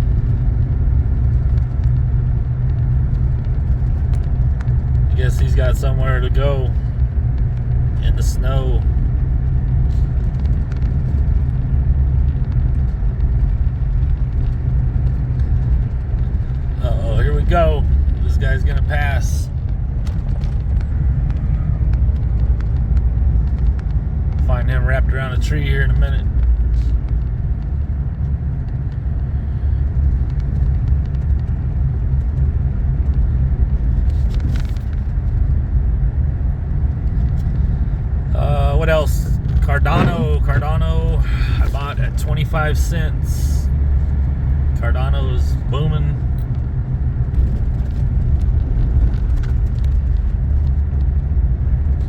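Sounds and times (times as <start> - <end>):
car driving on snowy road: 0.0 - 52.0.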